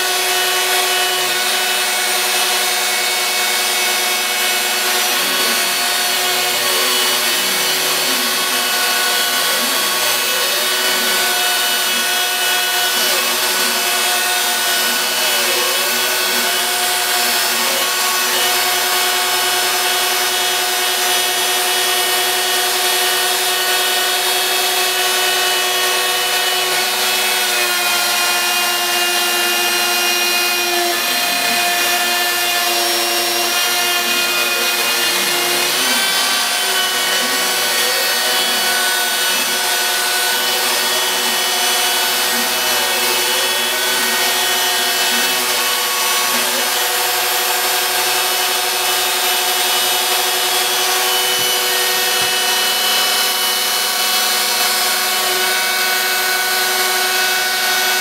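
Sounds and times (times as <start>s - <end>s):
cutter chewing through board: 0.0s - 58.0s
router spindle whining: 0.0s - 58.0s.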